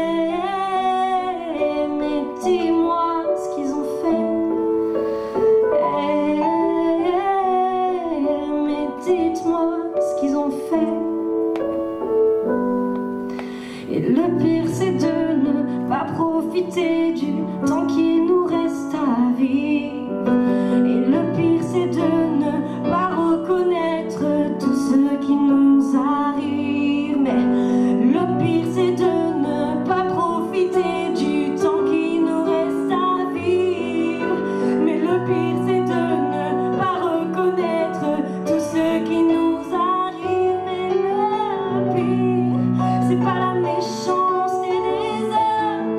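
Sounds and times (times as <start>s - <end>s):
woman singing into a microphone: 0.0s - 11.5s, 13.1s - 45.9s
piano accompaniment: 0.0s - 45.9s.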